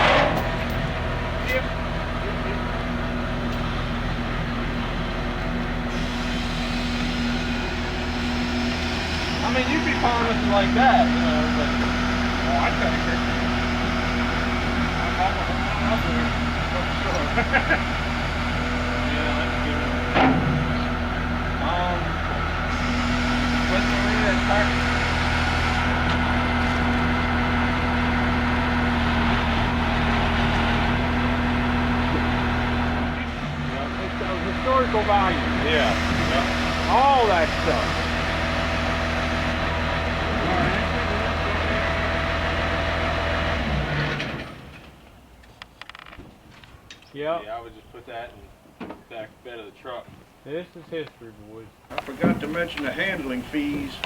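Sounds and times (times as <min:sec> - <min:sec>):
large engine running: 0:00.0 - 0:45.0, 0:51.9 - 0:54.0.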